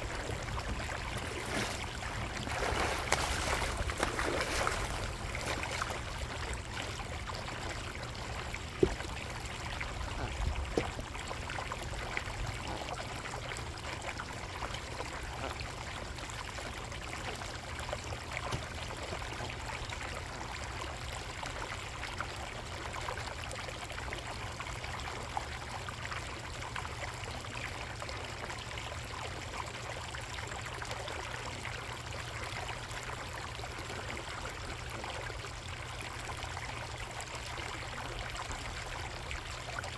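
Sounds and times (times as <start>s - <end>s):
low steady rumble: 0.0s - 39.9s
water trickling in a pond: 0.0s - 39.9s.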